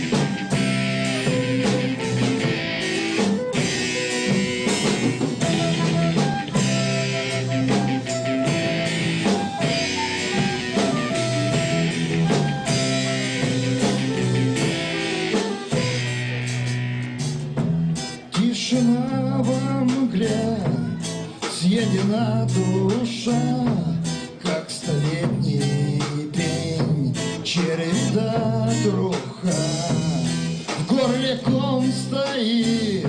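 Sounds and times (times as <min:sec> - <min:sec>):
drum kit beat: 0:00.0 - 0:33.0
guitar chords: 0:00.0 - 0:33.0.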